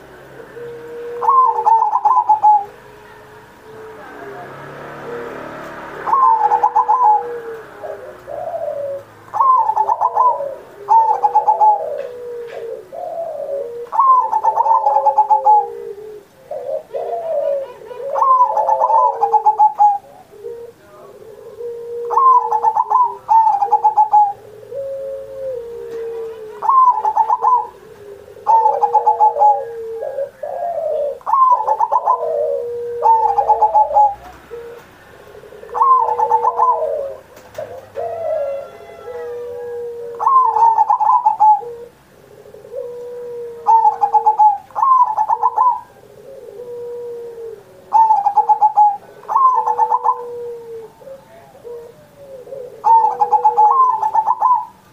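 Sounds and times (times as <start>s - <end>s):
dove cooing song: 0.0s - 54.9s.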